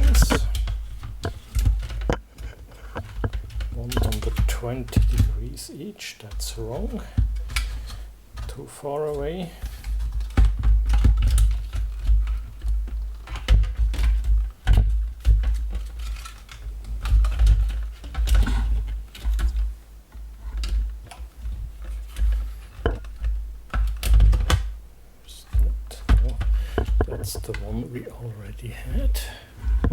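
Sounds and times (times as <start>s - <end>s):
hard plastic parts clicking: 0.0s - 5.5s, 6.3s - 24.8s, 25.5s - 28.0s.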